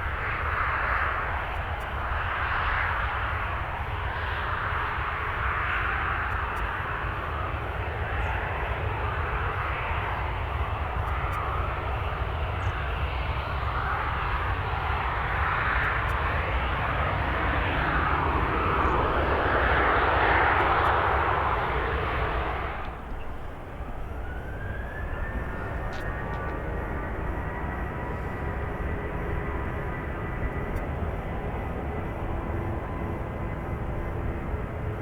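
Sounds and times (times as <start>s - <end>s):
airliner engines rushing: 0.0s - 35.0s.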